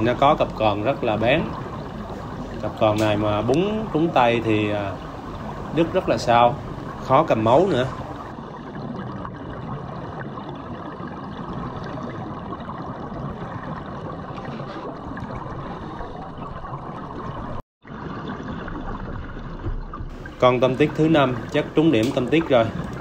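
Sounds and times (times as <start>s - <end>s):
underwater water rush: 0.0s - 23.0s.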